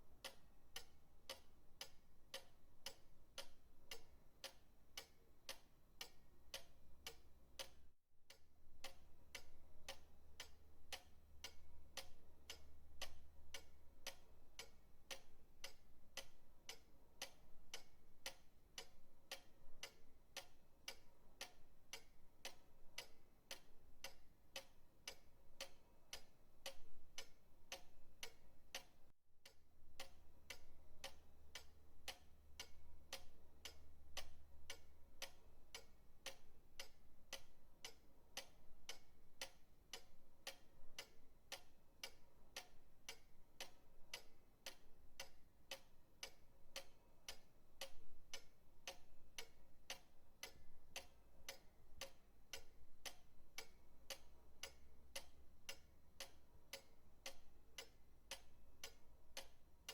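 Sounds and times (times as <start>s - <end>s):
pendulum clock ticking: 0.0s - 59.9s.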